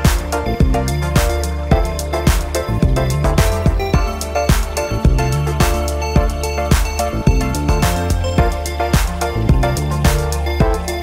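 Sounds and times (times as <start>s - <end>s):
music with steady beat: 0.0s - 11.0s
sustained bass line: 0.0s - 11.0s.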